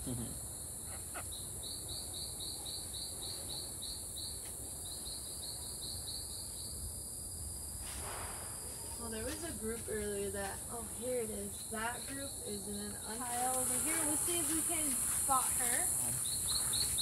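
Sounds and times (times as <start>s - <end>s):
insect chirps: 0.0s - 17.0s
insects droning: 0.0s - 17.0s.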